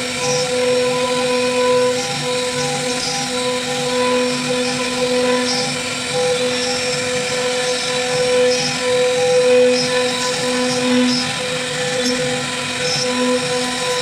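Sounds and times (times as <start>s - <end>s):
bit cutting into wood: 0.0s - 14.0s
router spindle whining: 0.0s - 14.0s.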